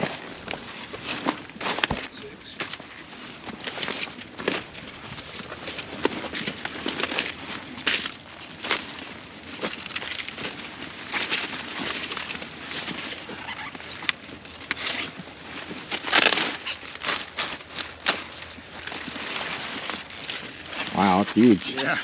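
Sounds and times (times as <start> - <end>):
leaves rustling and crunching: 0.0 - 22.0.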